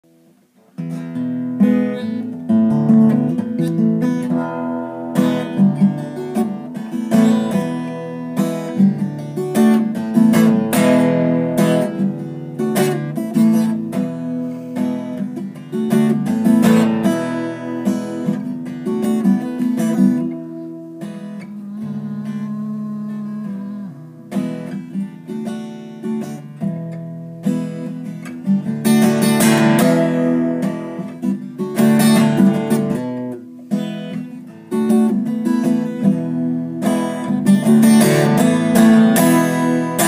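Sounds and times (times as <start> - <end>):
acoustic guitar strummed and picked: 0.0 - 40.0.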